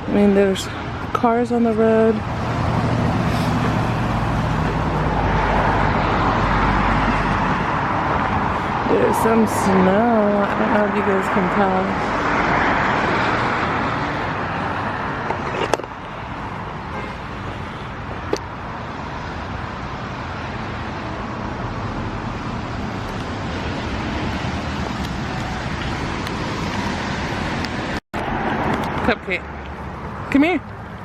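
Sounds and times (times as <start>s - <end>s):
road traffic: 0.0s - 31.0s
car passing by: 2.2s - 17.7s, 20.2s - 30.2s.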